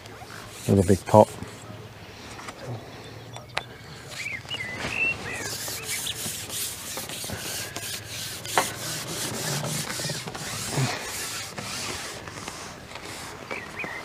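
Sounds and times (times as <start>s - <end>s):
rubbing and scraping strokes: 0.0s - 2.6s, 3.8s - 14.0s.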